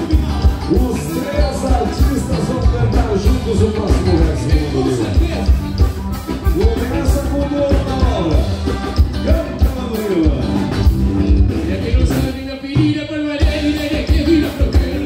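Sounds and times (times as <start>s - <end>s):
accordion: 0.0s - 15.0s
drum kit beat: 0.0s - 15.0s
electric bass: 0.0s - 15.0s
man singing: 0.0s - 15.0s.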